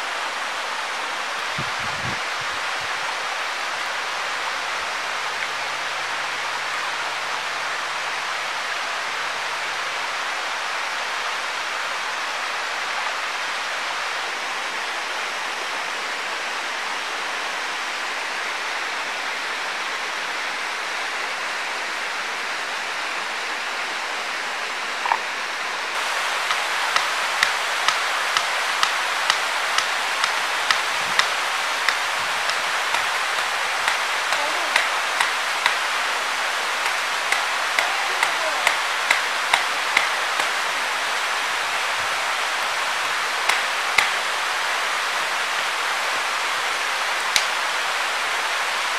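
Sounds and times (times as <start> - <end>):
stream and waterfall rushing: 0.0 - 48.9.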